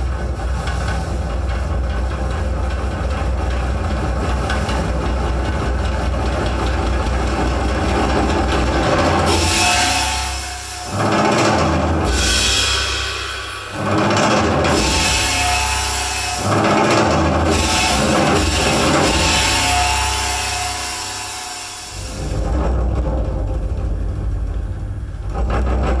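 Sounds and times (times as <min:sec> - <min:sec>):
loud noisy music with percussion: 0:00.0 - 0:26.0.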